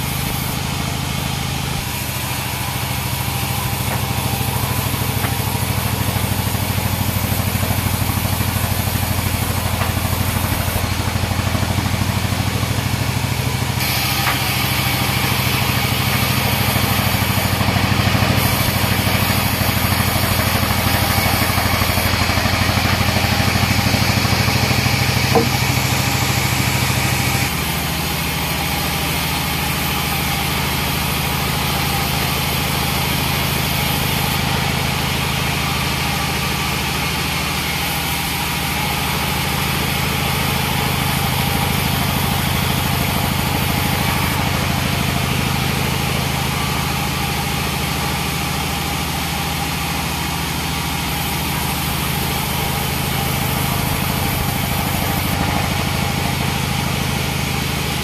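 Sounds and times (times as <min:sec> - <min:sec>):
bandsaw cutting wood: 0:00.0 - 0:58.0.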